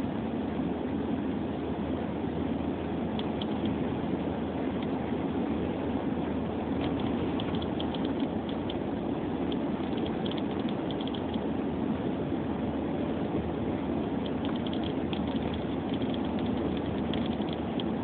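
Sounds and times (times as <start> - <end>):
car driving rumble inside cabin: 0.0 - 18.0.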